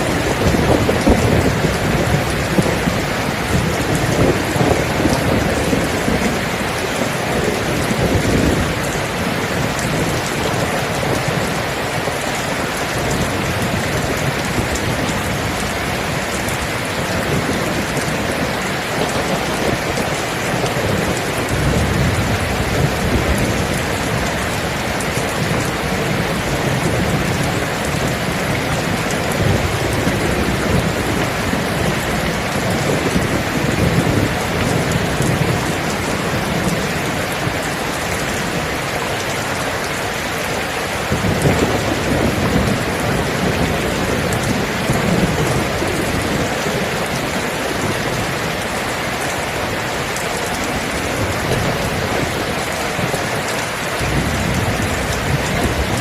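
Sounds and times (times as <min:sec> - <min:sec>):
heavy rain falling: 0:00.0 - 0:56.0
low thunder rumbling: 0:00.0 - 0:56.0.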